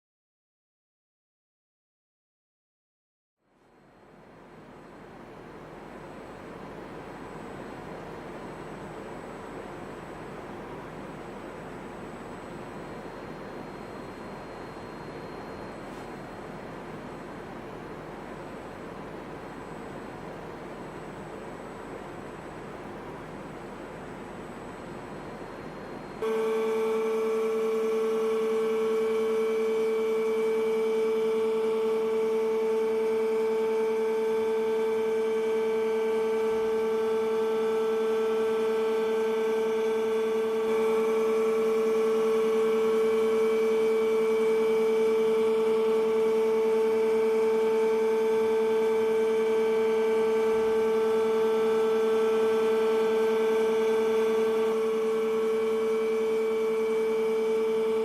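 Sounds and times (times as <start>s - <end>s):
milling machine whining: 7.0s - 58.0s.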